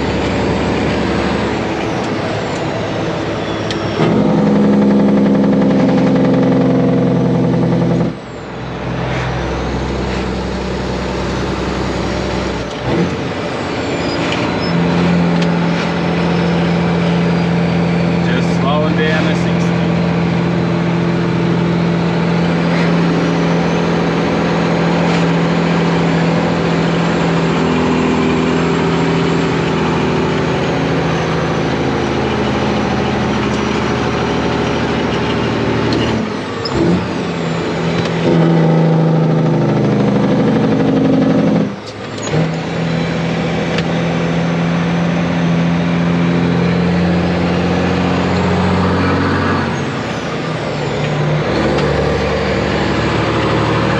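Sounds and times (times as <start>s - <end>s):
truck diesel engine under load: 0.0s - 53.9s.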